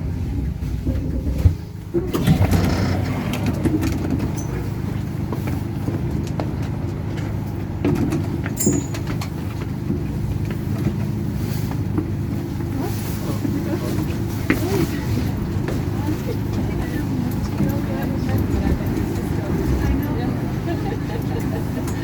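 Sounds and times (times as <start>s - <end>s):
tram rumbling along rails: 0.0s - 22.0s.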